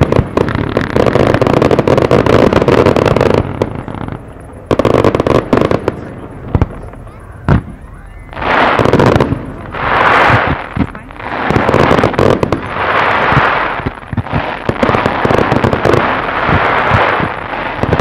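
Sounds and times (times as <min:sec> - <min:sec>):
fireworks crackle: 0:00.0 - 0:18.0
fireworks sharp pops: 0:00.0 - 0:18.0.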